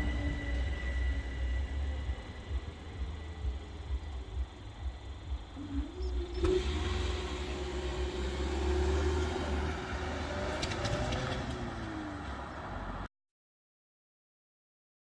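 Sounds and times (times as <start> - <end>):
barrier motor humming: 0.0 - 13.0
car driving past: 0.0 - 13.1.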